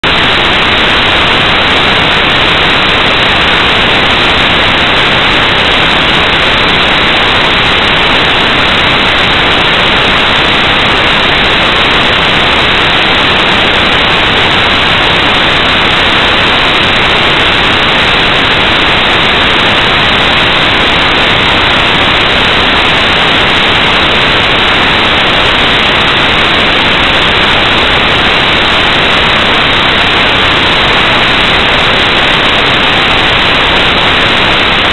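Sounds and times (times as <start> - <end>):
loud static hiss: 0.0 - 34.9.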